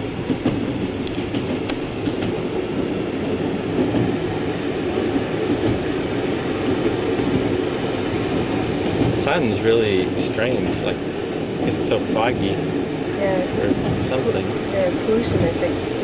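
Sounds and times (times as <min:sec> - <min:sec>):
train rumbling inside carriage: 0:00.0 - 0:16.0.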